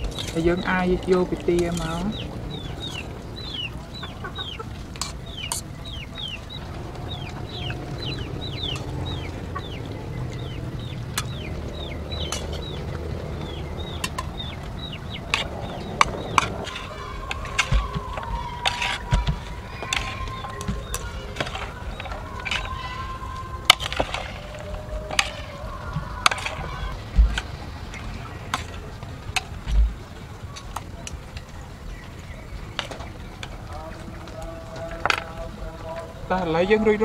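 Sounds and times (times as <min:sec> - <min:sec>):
chickens clucking and peeping: 0:00.0 - 0:37.0.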